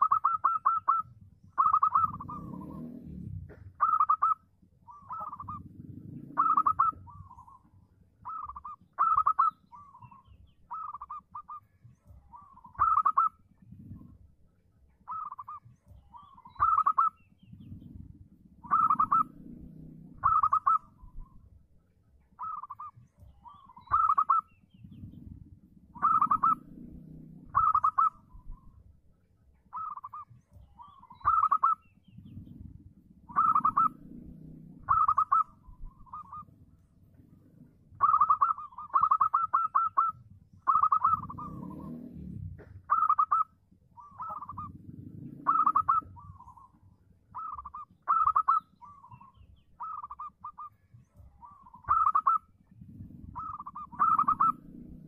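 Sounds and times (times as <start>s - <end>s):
dove cooing: 0.0s - 21.6s, 22.2s - 29.0s, 29.6s - 55.0s.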